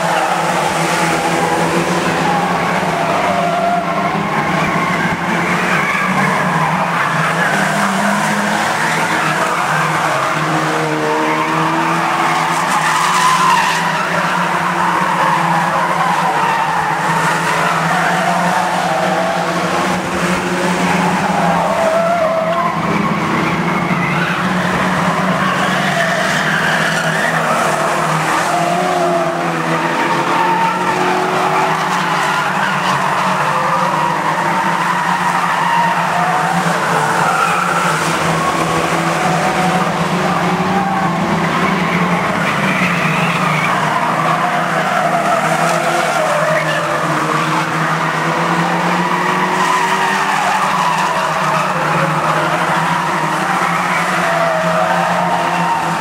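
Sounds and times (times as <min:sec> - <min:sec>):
racing car engines running hard: 0:00.0 - 0:56.0
tyres squealing: 0:00.0 - 0:56.0.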